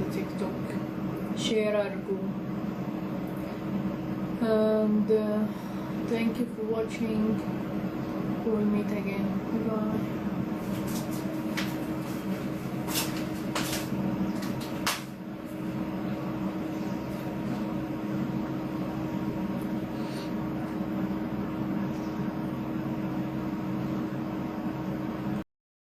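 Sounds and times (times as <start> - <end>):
steady mechanical hum: 0.0 - 25.4.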